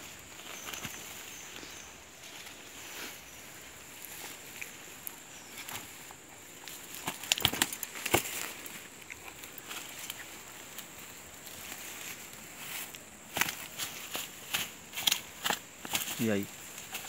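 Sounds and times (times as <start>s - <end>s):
undergrowth rustling: 0.0s - 17.0s.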